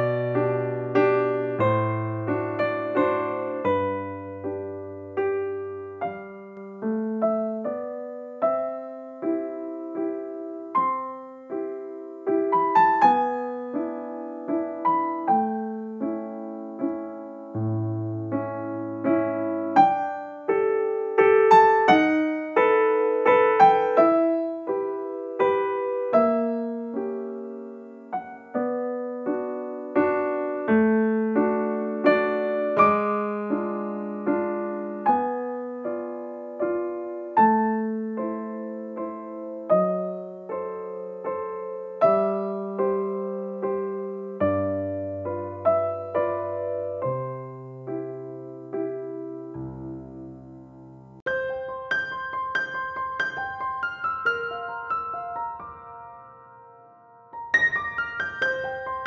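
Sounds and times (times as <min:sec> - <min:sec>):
solo piano melody: 0:00.0 - 0:59.0.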